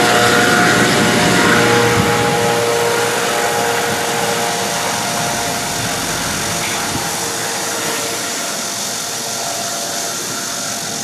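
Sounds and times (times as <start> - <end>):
helicopter rotor noise: 0.0 - 11.0
helicopter turbine whine: 0.0 - 11.0.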